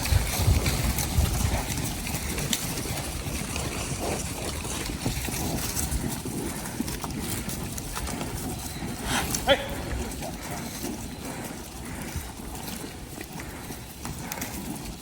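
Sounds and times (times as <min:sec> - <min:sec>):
cattle knocking and shuffling: 0:00.0 - 0:15.0
wind rumbling on microphone: 0:00.0 - 0:15.0.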